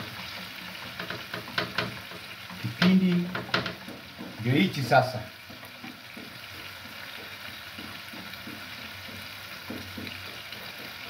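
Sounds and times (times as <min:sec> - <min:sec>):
food sizzling in pans: 0:00.0 - 0:11.0
utensil tapping and scraping pan: 0:00.0 - 0:11.0.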